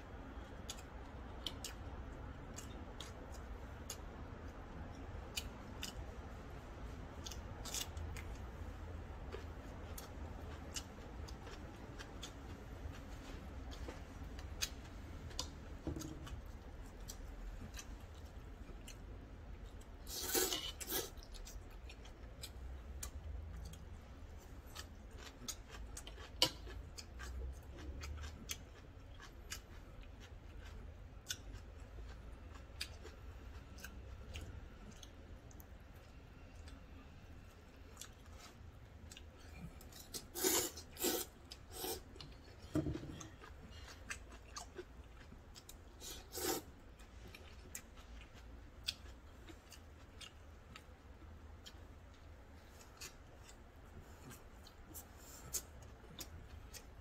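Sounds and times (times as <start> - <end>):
steady low hum: 0.0 - 57.0
chewing and mouth sounds: 9.2 - 57.0.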